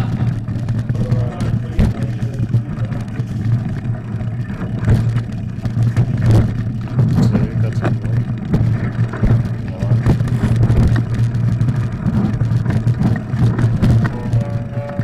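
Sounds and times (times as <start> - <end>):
bike rattling and knocking: 0.0 - 15.0
bike rumbling over rough ground: 0.0 - 15.0.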